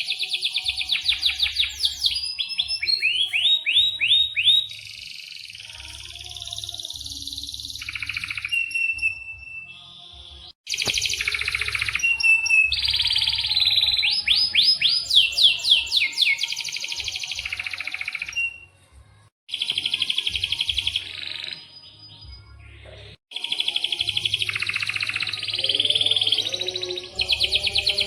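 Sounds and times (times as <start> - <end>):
canary singing trills and chirps: 0.0 - 18.7, 19.5 - 28.0.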